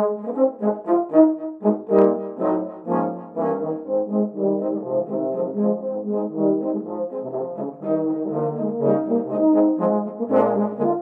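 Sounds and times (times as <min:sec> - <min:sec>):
brass march music: 0:00.0 - 0:11.0.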